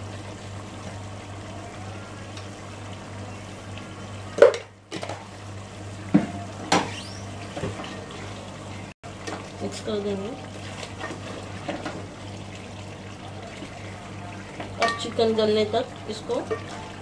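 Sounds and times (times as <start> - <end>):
pot sizzling and bubbling: 0.0 - 17.0.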